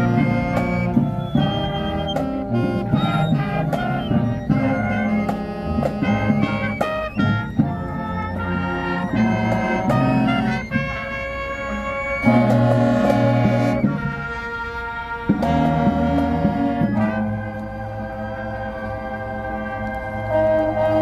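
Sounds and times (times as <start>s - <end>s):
brass holding loud chords: 0.0s - 21.0s.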